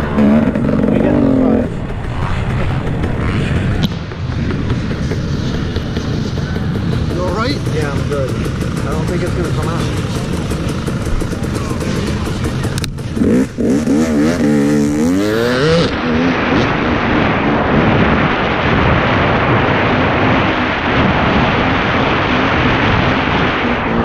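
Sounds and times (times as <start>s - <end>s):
dirt bike engines revving: 0.0s - 24.0s
wind noise: 0.0s - 24.0s.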